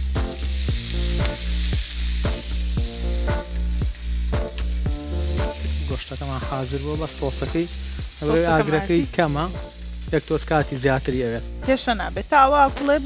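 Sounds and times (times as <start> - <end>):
background music with a beat: 0.0 - 13.0
steak sizzling in a pan: 0.0 - 13.0.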